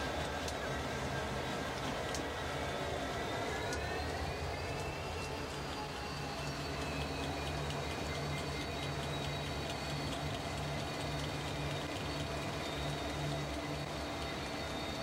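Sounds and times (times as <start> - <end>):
locomotive engine drone: 0.0 - 15.0
wheels clicking on rail: 0.0 - 15.0.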